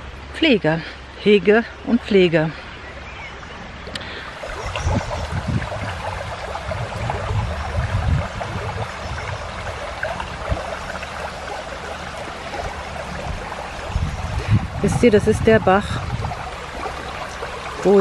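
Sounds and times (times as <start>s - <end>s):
brook trickling over stones: 0.1s - 18.0s.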